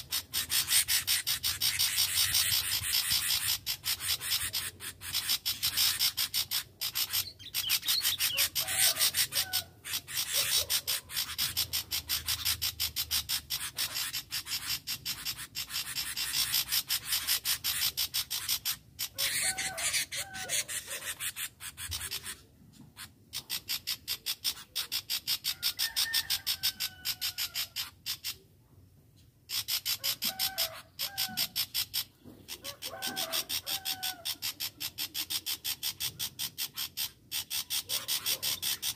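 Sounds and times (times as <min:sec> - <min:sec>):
bulbul calls: 0:00.0 - 0:28.4, 0:29.5 - 0:38.9.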